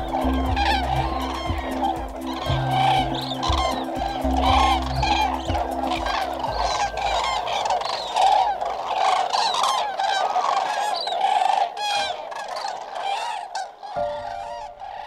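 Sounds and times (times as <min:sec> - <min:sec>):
cranes honking: 0:00.0 - 0:15.0.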